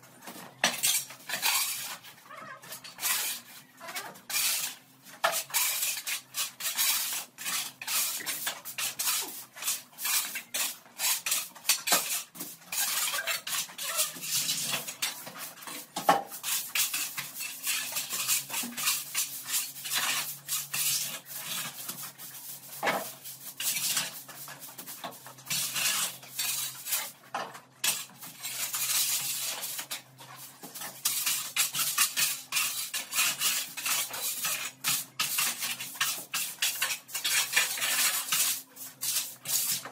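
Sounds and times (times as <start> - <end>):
metal shovels scraping concrete: 0.3 - 39.9.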